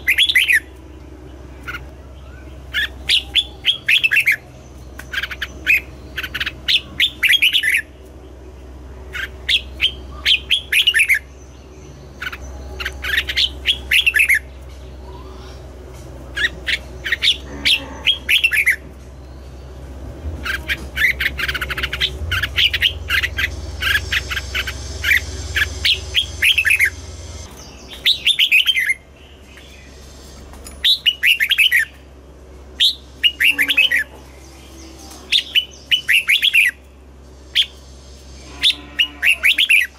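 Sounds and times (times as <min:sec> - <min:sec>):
birds singing quick chirping phrases: 0:00.0 - 0:39.9.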